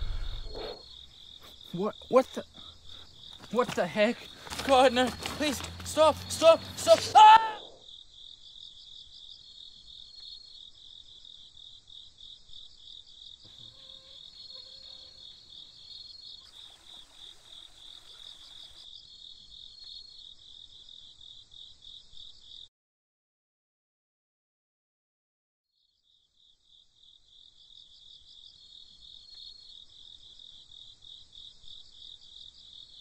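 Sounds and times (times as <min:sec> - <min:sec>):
crickets chirping: 0:00.0 - 0:22.7, 0:25.8 - 0:33.0.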